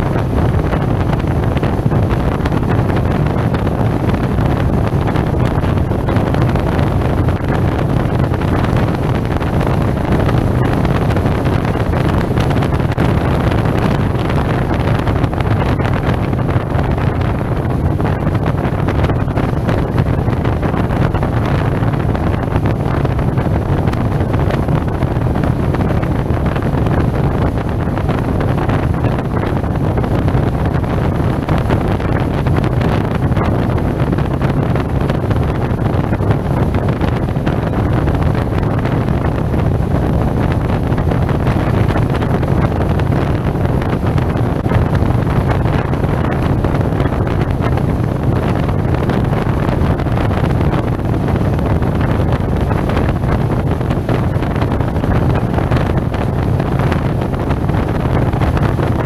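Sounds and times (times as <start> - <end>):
road noise: 0.0 - 59.0
wind rush on microphone: 0.0 - 59.0.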